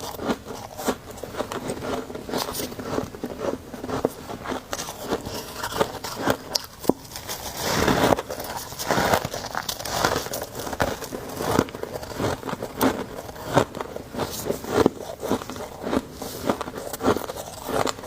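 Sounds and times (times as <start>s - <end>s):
chewing frost crunching: 0.0s - 18.0s.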